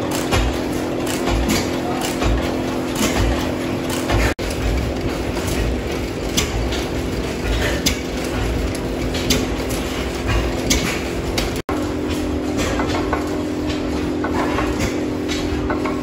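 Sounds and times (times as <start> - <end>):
pump jack clanking: 0.0 - 16.0
stationary engines droning: 0.0 - 16.0.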